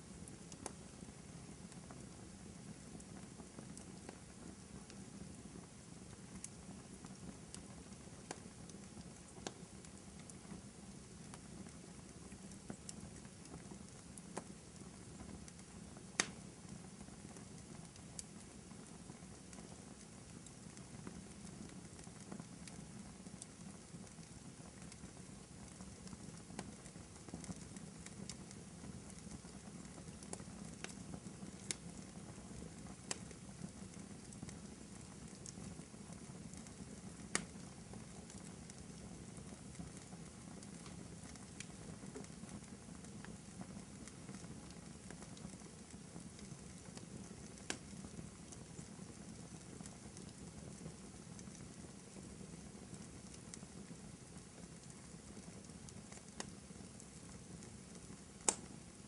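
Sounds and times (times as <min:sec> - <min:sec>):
fire crackling and popping: 0:00.0 - 0:59.0
wood fire hissing and rumbling: 0:00.0 - 0:59.0.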